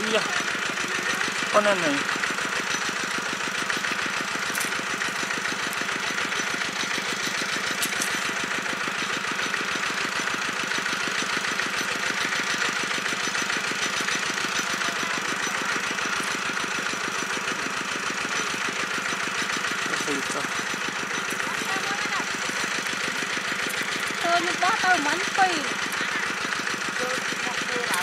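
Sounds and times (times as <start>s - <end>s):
water pump engine running: 0.0s - 28.0s.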